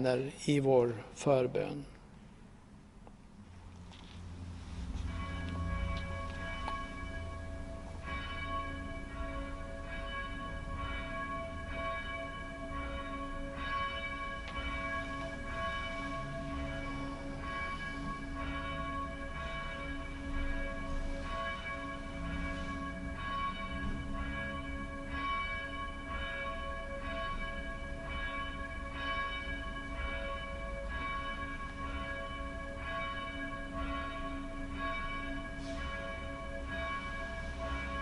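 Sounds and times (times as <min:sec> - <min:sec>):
church bells tolling: 0:04.3 - 0:38.0.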